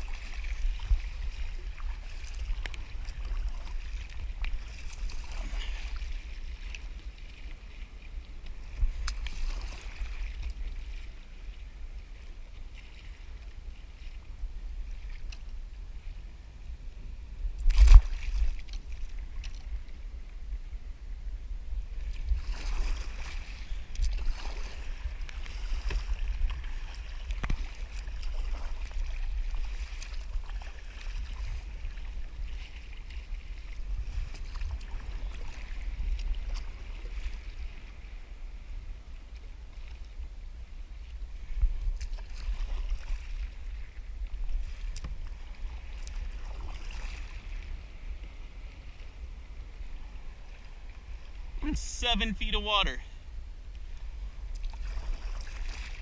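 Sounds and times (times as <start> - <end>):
water splashing around kayak: 0.0 - 56.0
wind rumbling on microphone: 0.0 - 56.0.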